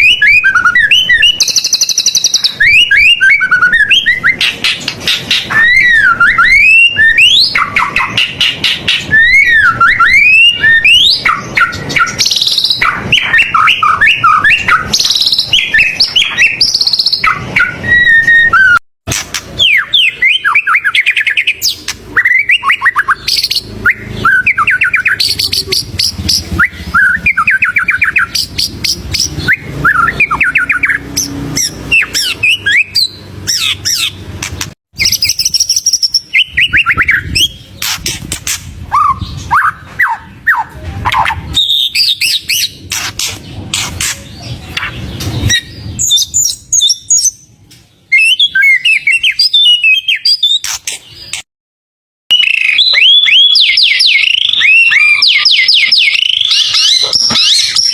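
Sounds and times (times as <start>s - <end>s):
bird singing whistles and trills: 0.0s - 18.8s, 19.6s - 34.2s, 35.0s - 47.5s, 48.1s - 51.4s, 52.3s - 57.9s.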